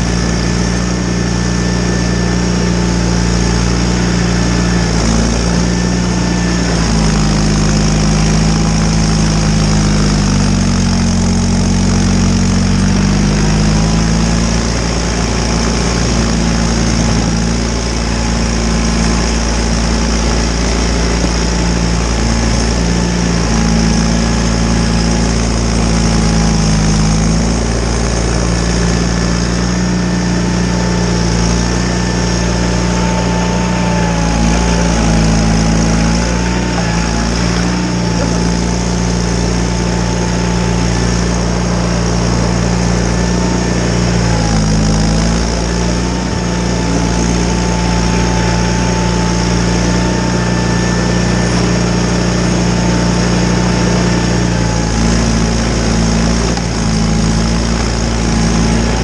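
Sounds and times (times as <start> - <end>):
thin wavering whine: 0.0 - 59.0
tractor engine running: 0.0 - 59.0.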